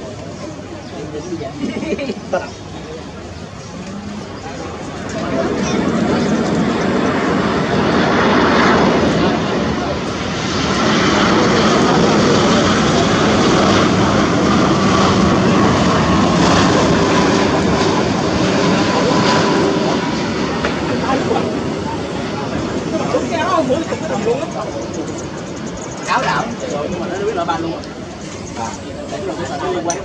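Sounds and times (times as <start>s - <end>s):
jet engine noise: 0.0s - 30.0s.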